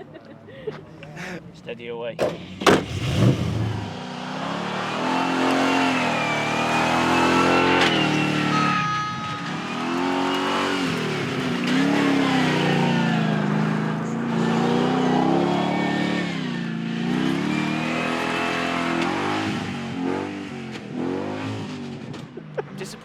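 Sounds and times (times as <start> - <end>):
vehicle engine revving: 0.7 - 22.7.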